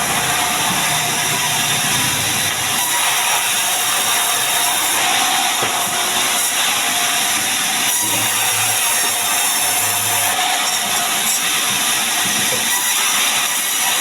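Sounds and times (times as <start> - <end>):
power saw cutting timber: 0.0 - 14.0.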